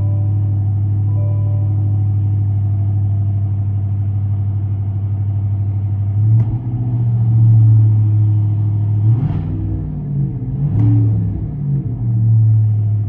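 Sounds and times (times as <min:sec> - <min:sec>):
truck engine idling with throttle blip: 0:00.0 - 0:13.0.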